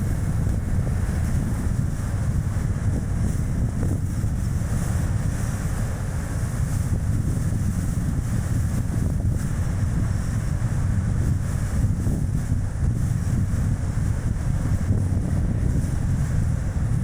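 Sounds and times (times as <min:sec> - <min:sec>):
car tyre and road noise: 0:00.0 - 0:17.0
wind buffeting microphone: 0:00.0 - 0:17.0.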